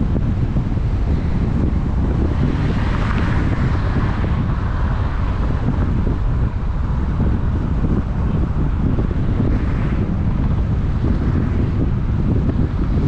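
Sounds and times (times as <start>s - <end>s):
low engine rumble: 0.0s - 13.0s
road noise: 0.0s - 13.0s
wind buffeting microphone: 0.0s - 13.0s
passing vehicle hiss: 0.8s - 12.8s.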